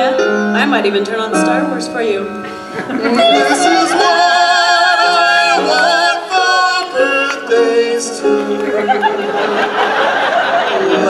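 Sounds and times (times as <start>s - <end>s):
music with singing: 0.0s - 11.0s.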